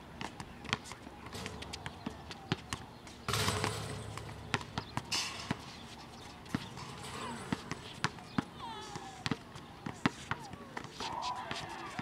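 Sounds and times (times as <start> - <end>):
balls bouncing on concrete: 0.2 - 12.0.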